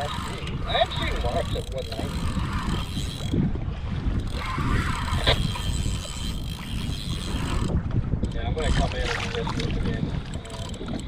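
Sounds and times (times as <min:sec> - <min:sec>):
water sloshing around kayak: 0:00.0 - 0:11.0
wind buffeting microphone: 0:00.0 - 0:11.0.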